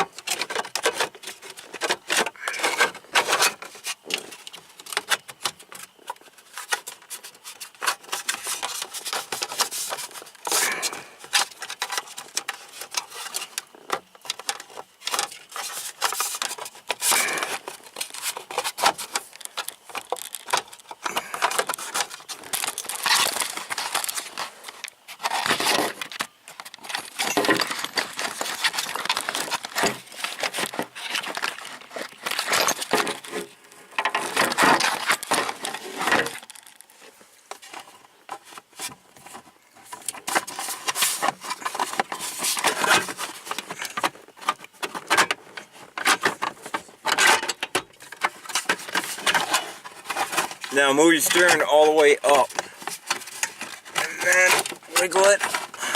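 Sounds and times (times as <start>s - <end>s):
plastic covers clicking and rattling: 0.0s - 55.9s.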